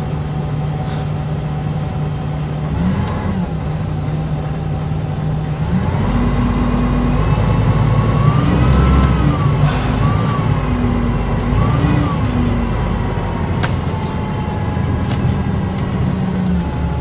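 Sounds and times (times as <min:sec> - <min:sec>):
bus engine rumble: 0:00.0 - 0:17.0
gearbox whine: 0:00.0 - 0:17.0.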